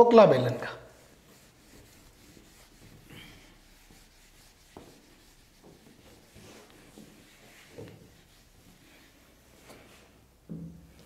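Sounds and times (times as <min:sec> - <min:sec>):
duster rubbing whiteboard: 0:00.9 - 0:10.2.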